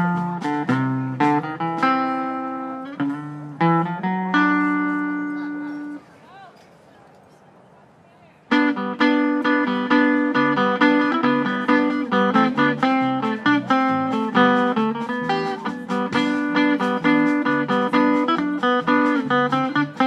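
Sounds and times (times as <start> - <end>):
electric guitar melody: 0.0 - 6.0, 8.5 - 20.0
plucked upright bass: 0.0 - 6.0, 8.5 - 20.0.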